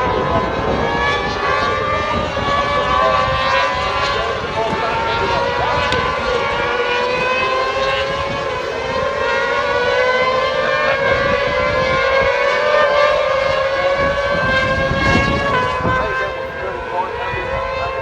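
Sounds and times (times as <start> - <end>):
racing engines at high revs: 0.0 - 18.0.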